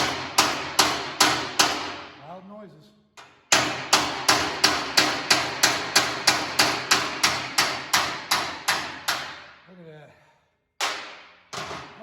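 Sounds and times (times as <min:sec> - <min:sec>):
hammer striking metal: 0:00.0 - 0:02.1, 0:03.2 - 0:09.6, 0:10.8 - 0:12.0.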